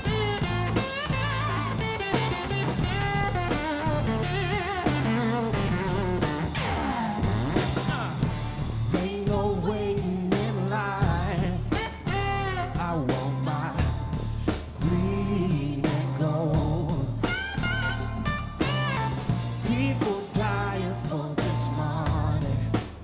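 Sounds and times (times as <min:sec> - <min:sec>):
electric guitar lead: 0:00.0 - 0:09.0, 0:09.6 - 0:22.7
bass line: 0:00.0 - 0:23.0
drums: 0:00.0 - 0:23.0.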